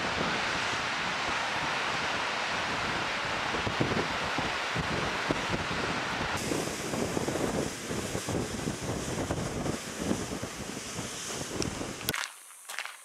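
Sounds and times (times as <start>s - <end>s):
gusty wind buffeting microphone: 0.0s - 12.1s.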